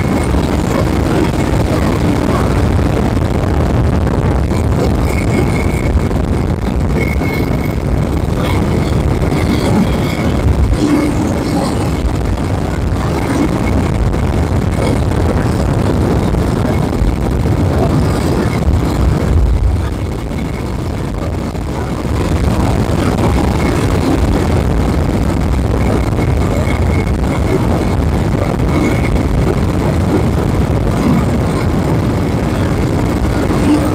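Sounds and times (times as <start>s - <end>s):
wind rushing on microphone: 0.0s - 33.9s.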